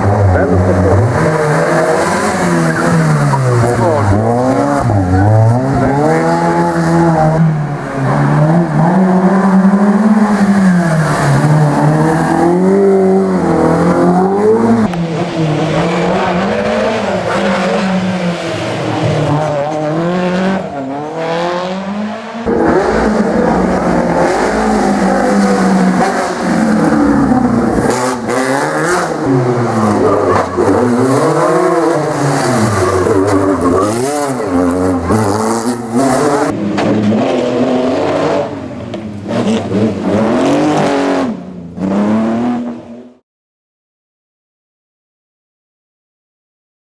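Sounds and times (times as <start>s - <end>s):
racing car engines revving: 0.0s - 43.2s.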